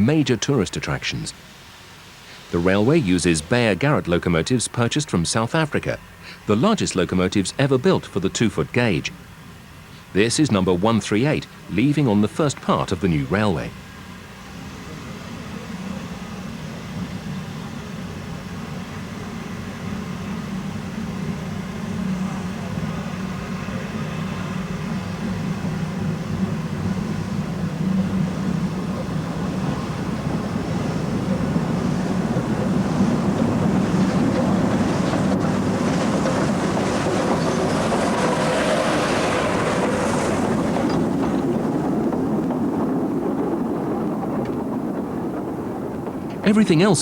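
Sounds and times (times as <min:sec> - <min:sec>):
steam locomotive working: 0:00.0 - 0:47.0.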